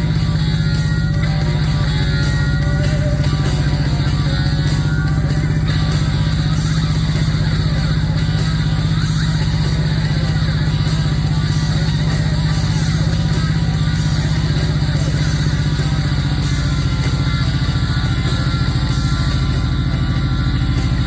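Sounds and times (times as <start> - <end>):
guitar music: 0.0 - 21.0
motorcycle engine running: 0.0 - 21.0.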